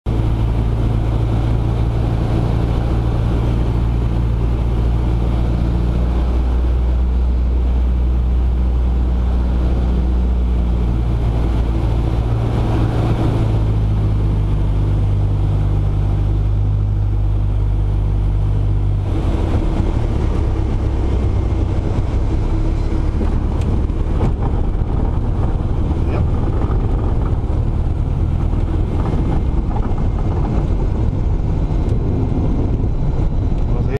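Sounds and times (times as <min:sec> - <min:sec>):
light aircraft engine and propeller: 0:00.1 - 0:33.9.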